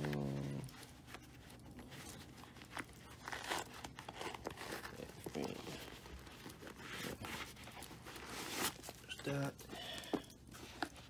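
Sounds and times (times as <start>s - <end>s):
sneaker crinkling and rustling: 0.0s - 11.0s.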